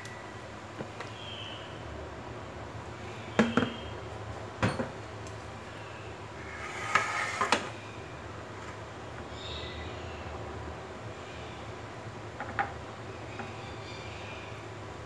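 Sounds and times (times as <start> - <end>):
steady low hum: 1.4 - 15.0.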